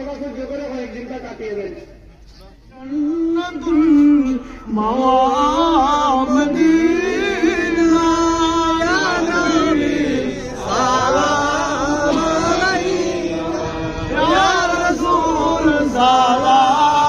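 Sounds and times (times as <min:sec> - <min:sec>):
man chanting into a microphone: 0:02.7 - 0:17.0.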